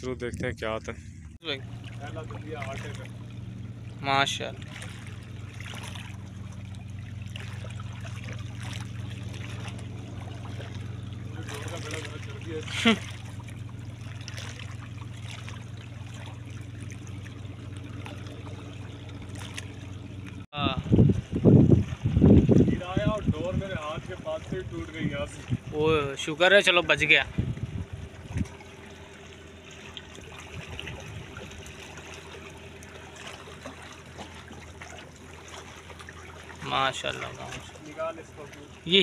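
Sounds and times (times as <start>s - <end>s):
steady low hum: 0.0s - 39.0s
river water lapping on rocks: 1.4s - 39.0s.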